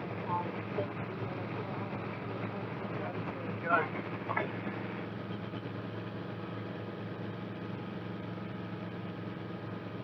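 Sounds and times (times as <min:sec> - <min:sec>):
helicopter engine and rotors: 0:00.0 - 0:10.0.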